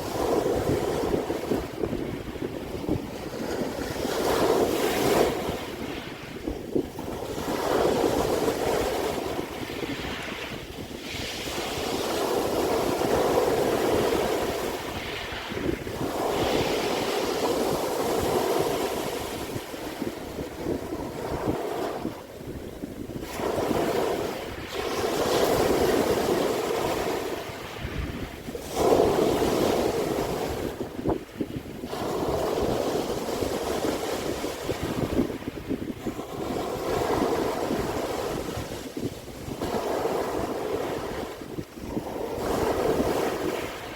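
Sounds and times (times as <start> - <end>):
sea waves breaking on shore: 0.0 - 43.9.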